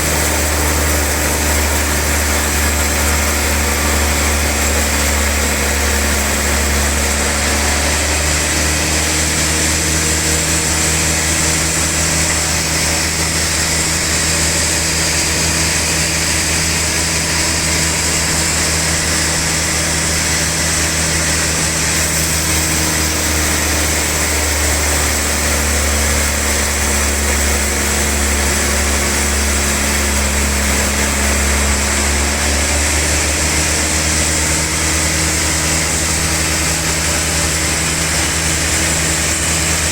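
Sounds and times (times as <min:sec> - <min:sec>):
band saw motor hum: 0:00.0 - 0:39.9
hissing saw blade: 0:00.0 - 0:39.9.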